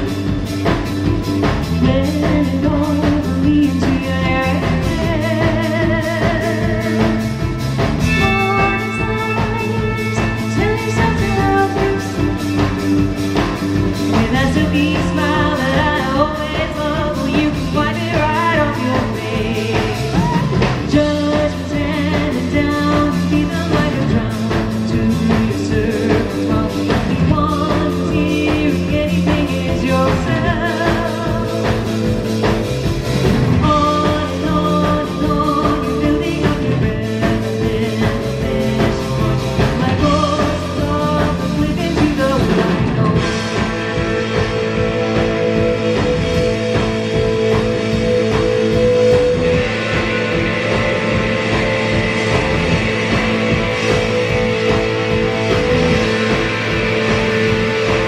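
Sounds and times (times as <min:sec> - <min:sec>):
person singing: 0:00.0 - 0:32.5, 0:33.5 - 0:58.0
live rock band playing: 0:00.0 - 0:58.0
steady drum beat: 0:00.0 - 0:58.0.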